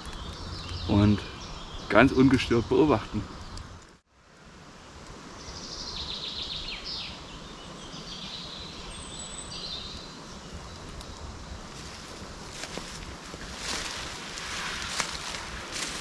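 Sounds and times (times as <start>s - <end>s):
songbirds singing: 0.0s - 3.8s, 5.3s - 16.0s.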